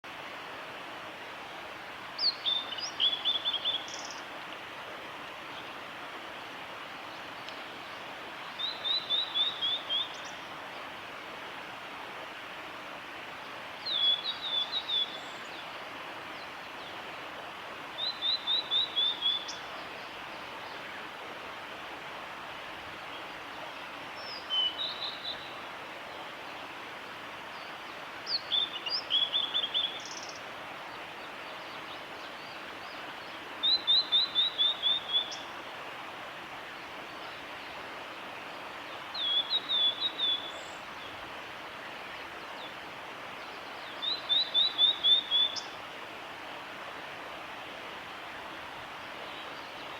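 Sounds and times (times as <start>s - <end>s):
steady background hiss: 0.1s - 49.9s.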